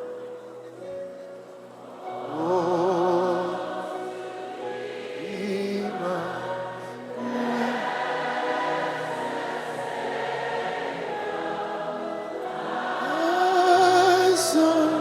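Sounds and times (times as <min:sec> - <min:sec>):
choir singing: 0:00.0 - 0:15.0
person singing with vibrato: 0:01.9 - 0:15.0.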